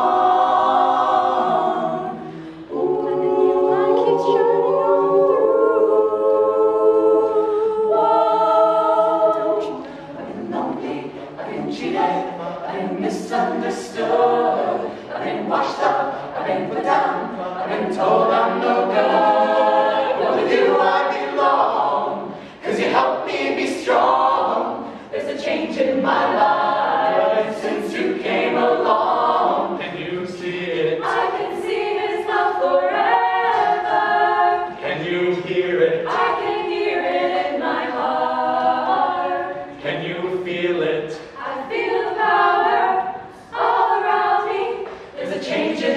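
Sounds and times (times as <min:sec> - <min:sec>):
group singing in harmony: 0:00.0 - 0:45.9.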